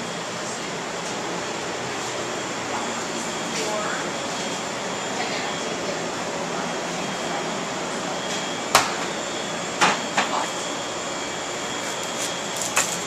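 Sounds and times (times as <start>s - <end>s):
faint high whine: 0.0s - 13.0s
ventilation air rushing: 0.0s - 13.0s.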